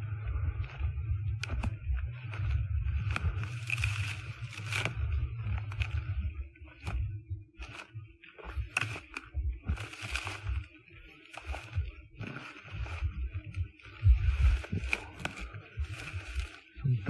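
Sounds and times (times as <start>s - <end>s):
footsteps through undergrowth: 0.0s - 17.0s
twigs snapping: 0.7s - 17.0s.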